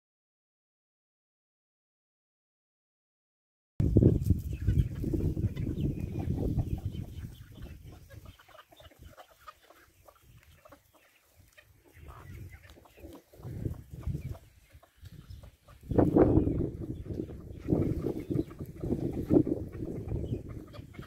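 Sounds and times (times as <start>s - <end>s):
chickens clucking: 3.8s - 21.0s.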